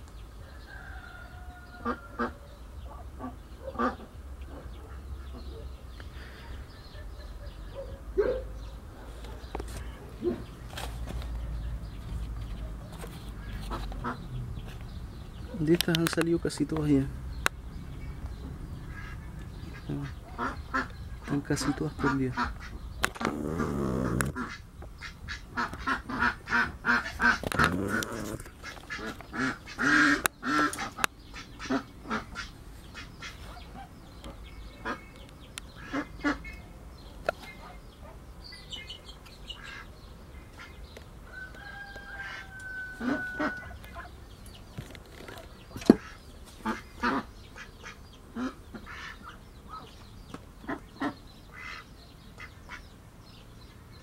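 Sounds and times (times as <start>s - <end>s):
birds calling: 0.0s - 54.0s.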